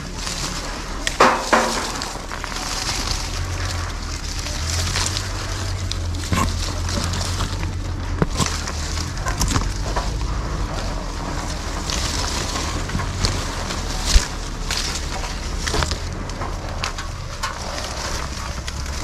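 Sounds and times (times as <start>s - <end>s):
leaves and branches rustling: 0.0s - 19.0s
low rumble: 0.0s - 19.0s
twigs snapping: 0.0s - 19.0s.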